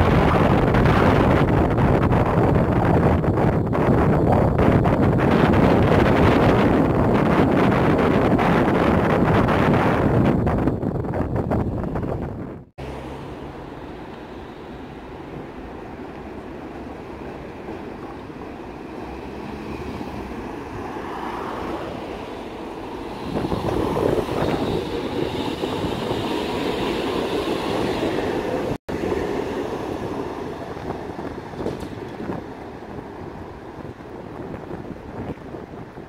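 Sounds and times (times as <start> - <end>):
electric tram passing: 0.0 - 36.0.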